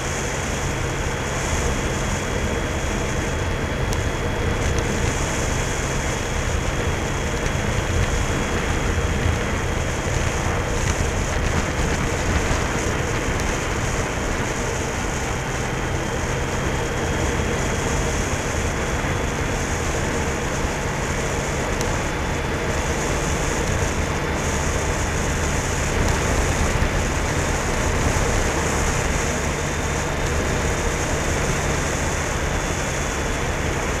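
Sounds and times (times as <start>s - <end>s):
motorcycle engine drone: 0.0s - 34.0s
wind rushing over microphone: 0.0s - 34.0s.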